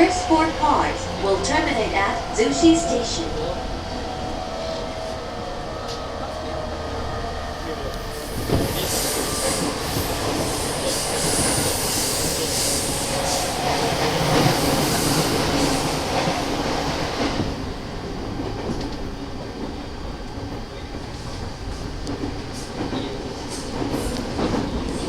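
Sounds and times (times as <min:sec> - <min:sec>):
train rail and wheel rumble: 0:00.0 - 0:25.0.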